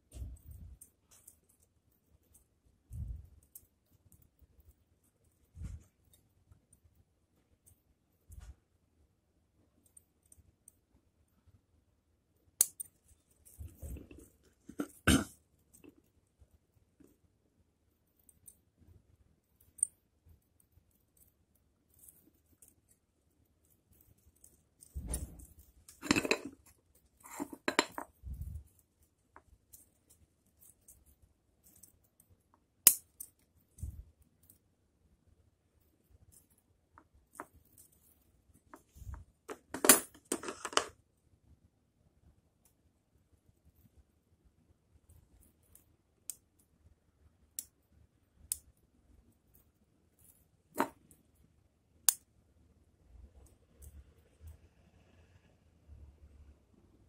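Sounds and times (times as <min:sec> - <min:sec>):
rustling and handling noise: 0:00.0 - 0:41.3, 0:42.4 - 0:52.4.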